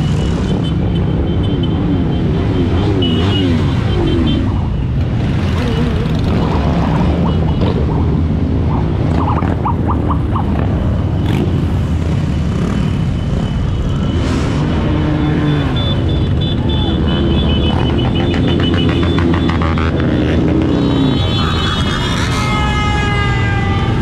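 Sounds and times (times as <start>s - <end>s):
motorcycles riding past: 1.7s - 21.9s.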